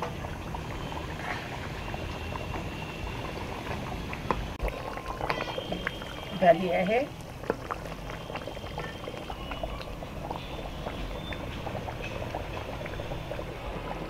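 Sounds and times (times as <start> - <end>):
thick curry bubbling with pops: 0.0 - 14.0.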